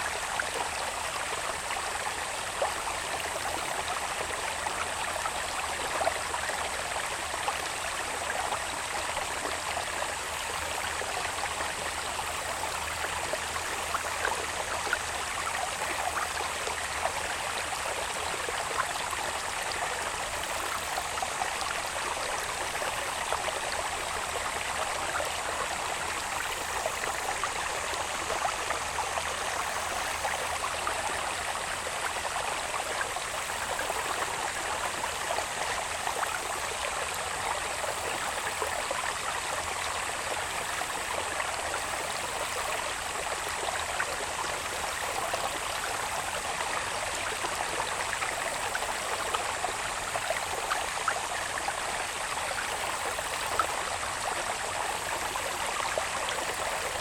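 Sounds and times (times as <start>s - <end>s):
water babbling in a channel: 0.0s - 57.0s.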